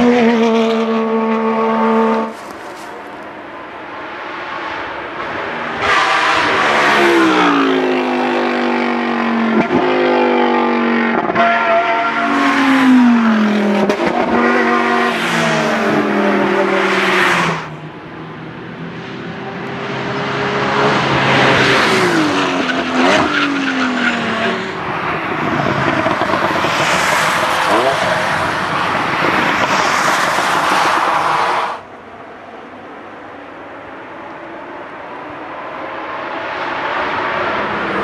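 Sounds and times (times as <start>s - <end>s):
racing car engines revving: 0.0s - 38.0s.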